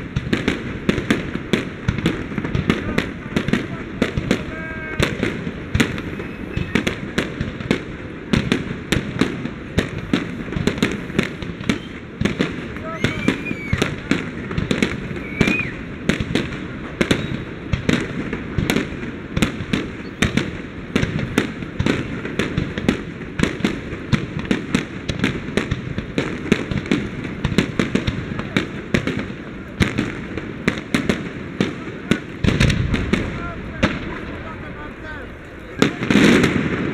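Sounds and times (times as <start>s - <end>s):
fireworks bangs and crackles: 0.0s - 36.9s.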